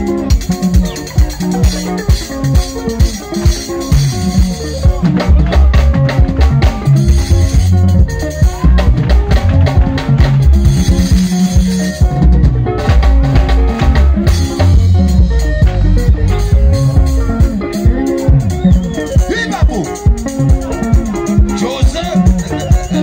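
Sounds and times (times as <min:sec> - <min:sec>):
bass line: 0:00.0 - 0:23.0
busy drum kit: 0:00.0 - 0:23.0
electric guitars: 0:00.0 - 0:23.0.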